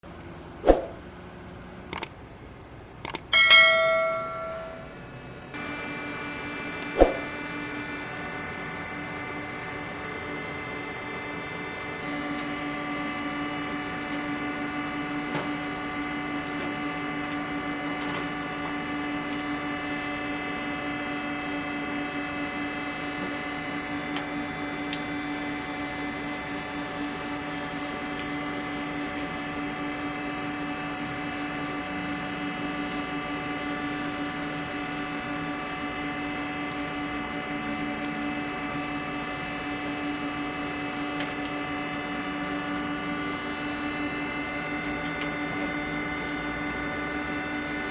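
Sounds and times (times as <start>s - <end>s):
machine hum with low drone: 0.0s - 47.9s.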